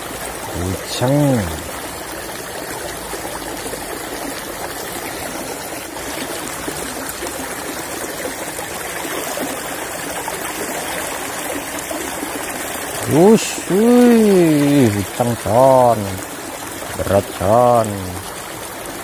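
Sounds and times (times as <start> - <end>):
water flowing in a channel: 0.0 - 19.0.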